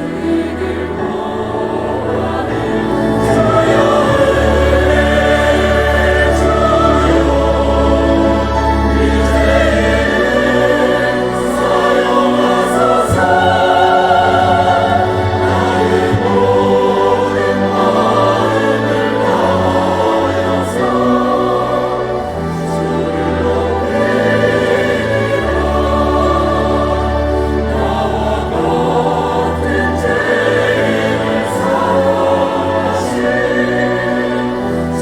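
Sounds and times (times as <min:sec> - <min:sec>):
choir singing: 0:00.0 - 0:35.0
instrumental accompaniment: 0:00.0 - 0:35.0.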